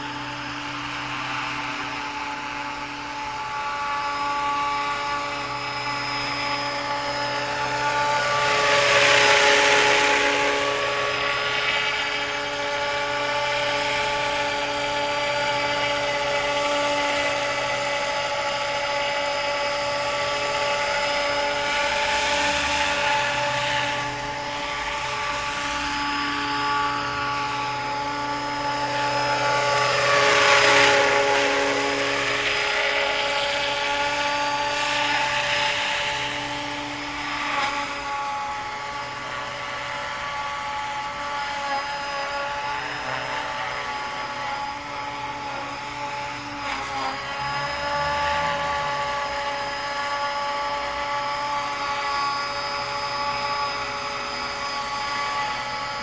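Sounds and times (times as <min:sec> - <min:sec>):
model helicopter mechanical whine: 0:00.0 - 0:56.0
rushing rotor: 0:00.0 - 0:56.0.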